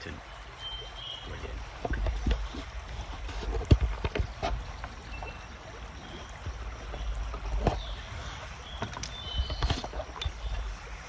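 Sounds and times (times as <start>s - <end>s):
water lapping and trickling: 0.0s - 11.0s.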